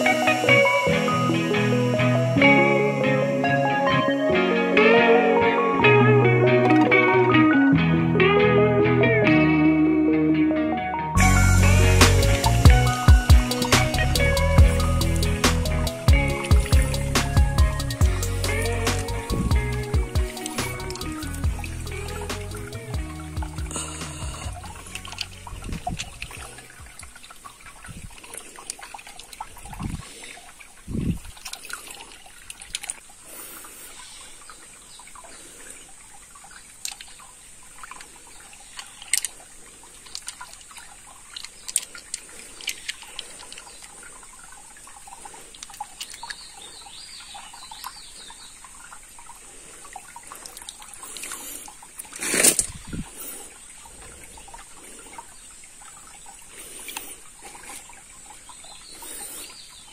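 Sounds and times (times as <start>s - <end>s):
stream water trickling: 0.0s - 3.5s, 11.2s - 59.9s.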